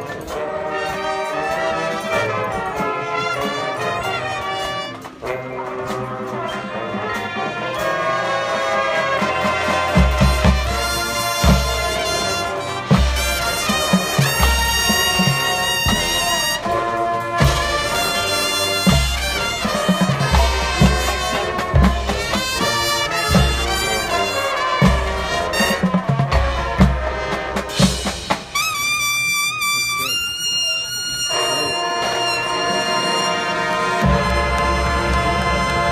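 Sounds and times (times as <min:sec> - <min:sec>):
brass horns playing: 0:00.0 - 0:35.9.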